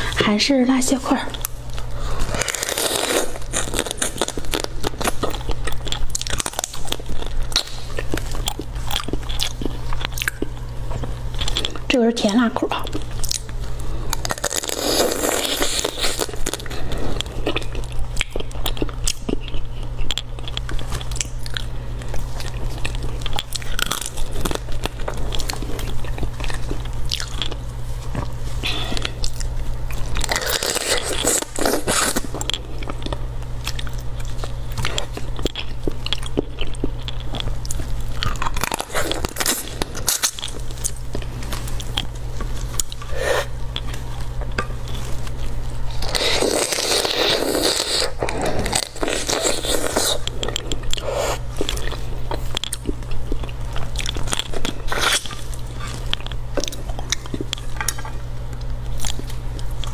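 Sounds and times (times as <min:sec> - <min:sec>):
steady low hum: 0:00.0 - 0:59.9
biting and chewing: 0:01.3 - 0:11.9, 0:12.8 - 0:59.9
crab shell crunching: 0:01.4 - 0:11.9, 0:13.0 - 0:27.7, 0:29.0 - 0:59.9.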